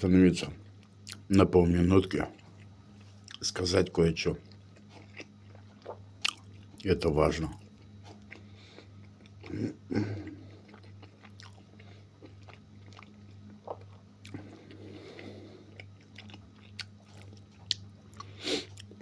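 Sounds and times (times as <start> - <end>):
steady low hum: 0.0 - 19.0
man chewing food: 0.6 - 1.3, 2.3 - 3.5, 4.3 - 6.9, 7.5 - 19.0.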